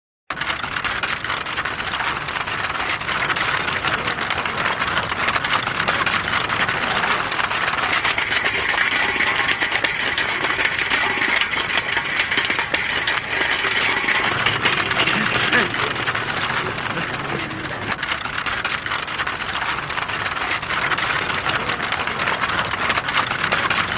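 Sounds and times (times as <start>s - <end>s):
film projector clattering: 0.3s - 23.9s
high mechanical whine: 0.4s - 23.9s.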